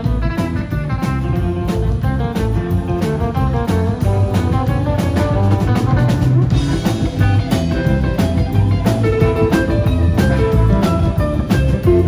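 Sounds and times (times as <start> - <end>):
drum kit steady beat: 0.0 - 12.0
electric guitars: 0.0 - 12.0.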